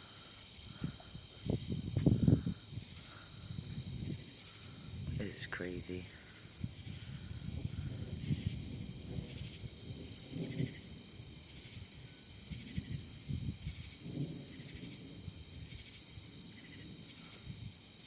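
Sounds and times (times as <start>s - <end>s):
crickets and insects trilling: 0.0s - 18.0s.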